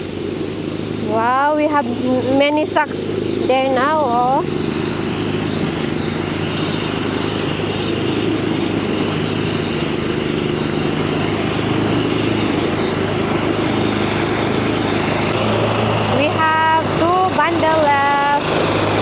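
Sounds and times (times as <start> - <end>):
thresher engine drone: 0.0 - 19.0.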